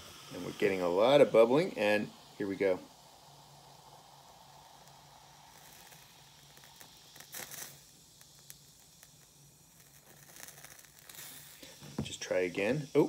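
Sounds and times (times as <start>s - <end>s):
baking soda and vinegar fizzing: 0.0s - 13.0s.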